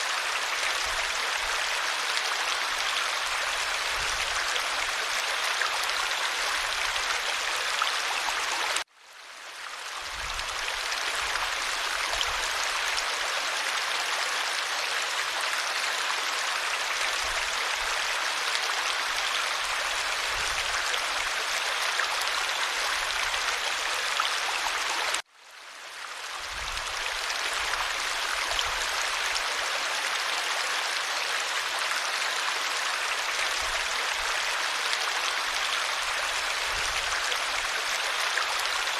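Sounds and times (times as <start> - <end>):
stream running over stones: 0.0 - 38.9.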